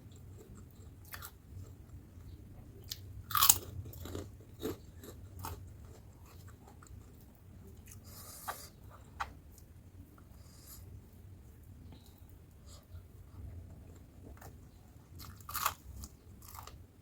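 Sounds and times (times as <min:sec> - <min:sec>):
crunchy eating and chewing: 0:00.0 - 0:10.9, 0:11.9 - 0:17.0.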